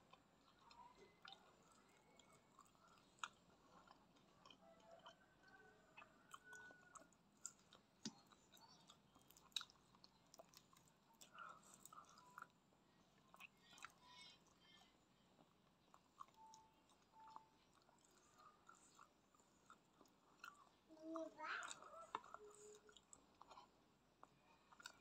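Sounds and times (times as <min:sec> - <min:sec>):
chewing fried chicken: 0:00.0 - 0:25.0.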